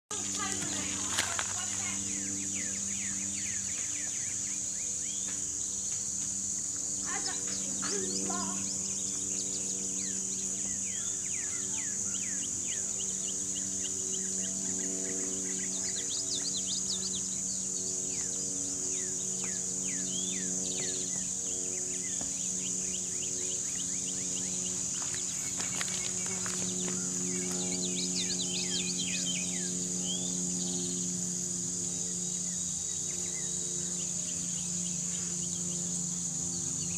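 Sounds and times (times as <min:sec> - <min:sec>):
high insect drone: 0:00.1 - 0:36.9
low hum of held tones: 0:00.1 - 0:36.9.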